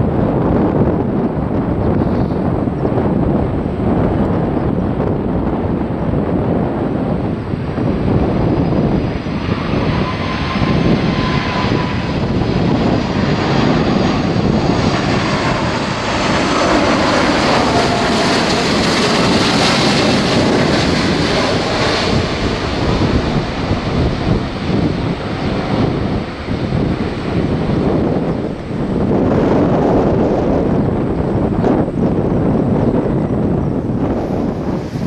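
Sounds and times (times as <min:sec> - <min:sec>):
jet airliner engine noise: 0:00.0 - 0:35.0.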